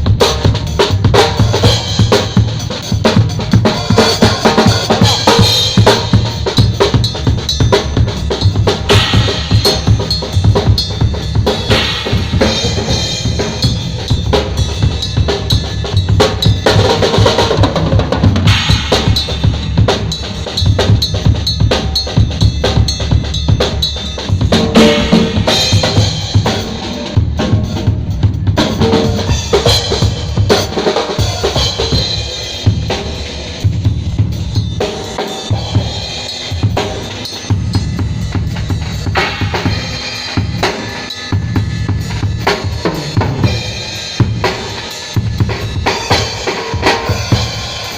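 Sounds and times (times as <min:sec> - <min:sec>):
drum kit playing: 0:00.0 - 0:47.9.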